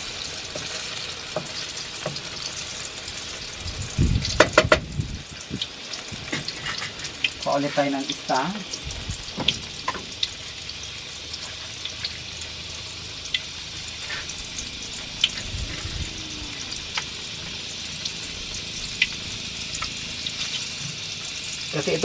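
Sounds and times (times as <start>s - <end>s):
food sizzling in wok: 0.0s - 22.0s.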